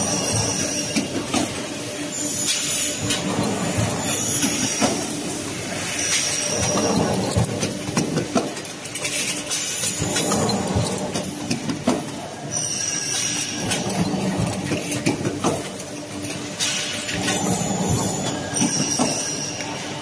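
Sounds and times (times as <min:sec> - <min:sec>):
production line machinery clattering: 0:00.0 - 0:20.0.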